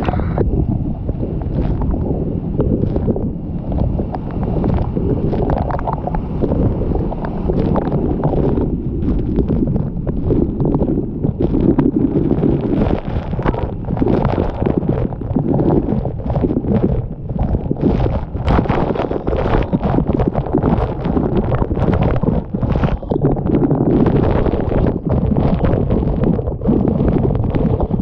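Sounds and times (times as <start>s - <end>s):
wind buffeting microphone: 0.0s - 28.0s
waterfall rushing and rumbling: 2.8s - 28.0s.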